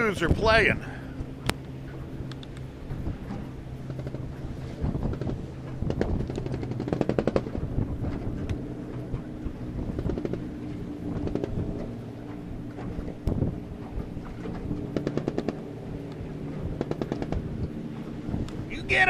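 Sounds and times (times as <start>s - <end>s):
low hum: 0.0s - 19.0s
water slapping boat hull: 0.0s - 19.0s.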